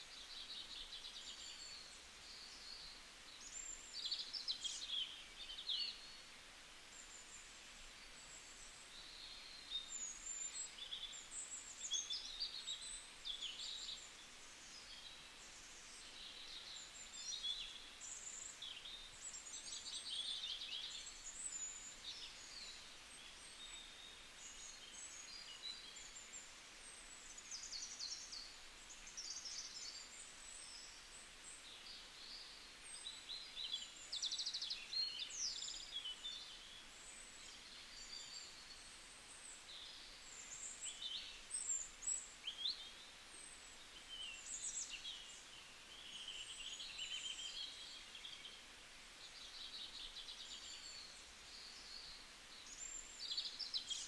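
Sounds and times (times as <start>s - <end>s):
faint steady hiss: 0.0s - 54.0s
songbirds chirping and trilling: 0.0s - 54.0s.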